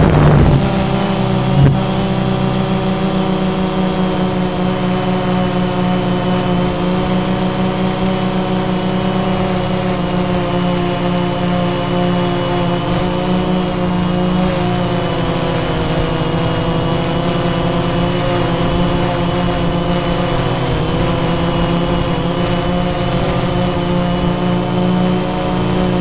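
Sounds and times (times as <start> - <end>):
drone motors humming: 0.0 - 26.0.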